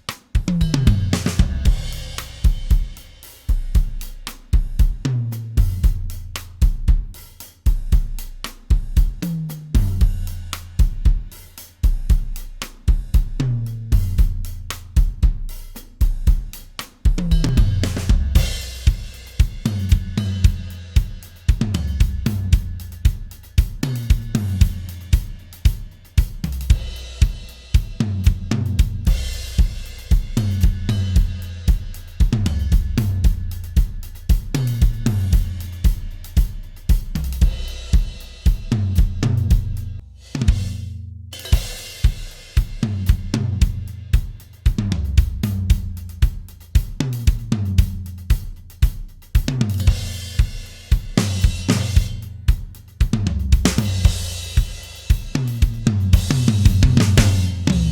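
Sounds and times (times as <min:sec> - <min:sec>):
cymbals: 0:00.0 - 0:53.0, 0:53.6 - 0:57.9
hi-hat: 0:00.0 - 0:57.9
snare drum: 0:00.0 - 0:57.9
kick drum: 0:04.6 - 0:09.2, 0:09.8 - 0:11.3, 0:11.9 - 0:14.4, 0:15.0 - 0:16.5, 0:17.1 - 0:40.8, 0:41.6 - 0:57.9.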